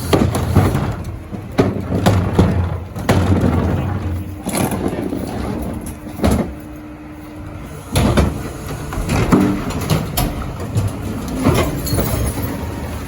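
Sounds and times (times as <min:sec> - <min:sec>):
recycling knocking and clattering: 0:00.0 - 0:06.7, 0:07.8 - 0:13.0
garbage truck engine rumbling: 0:00.0 - 0:13.0.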